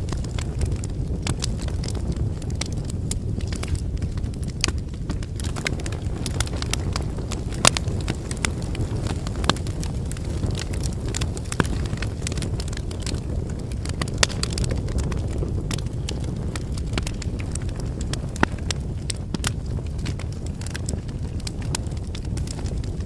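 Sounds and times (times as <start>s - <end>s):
firewood crackling and popping: 0.0s - 23.0s
low roar of flames: 0.0s - 23.0s.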